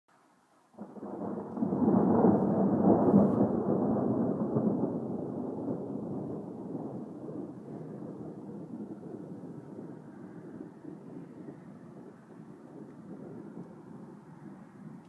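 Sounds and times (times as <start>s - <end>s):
thunder rumbling: 0.8s - 15.0s.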